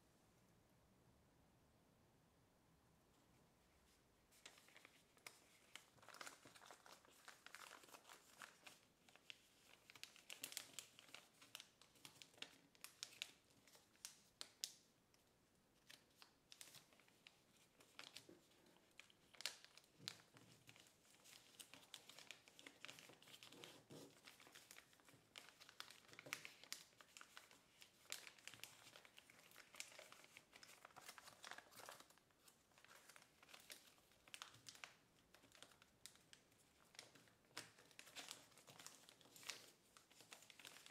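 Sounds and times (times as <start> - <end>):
paper rustling and crinkling: 4.3 - 14.7, 15.8 - 40.9.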